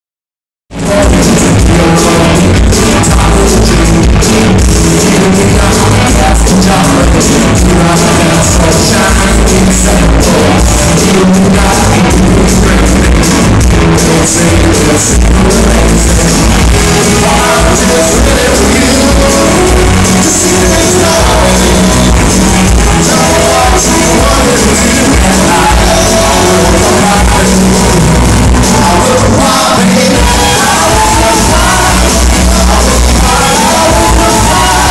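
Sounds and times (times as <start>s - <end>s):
live band music: 0.7s - 34.9s.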